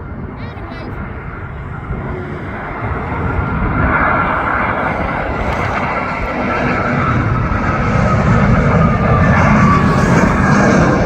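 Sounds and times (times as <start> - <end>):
high engine whine: 0.0 - 11.0
jet airliner roar: 0.0 - 11.0.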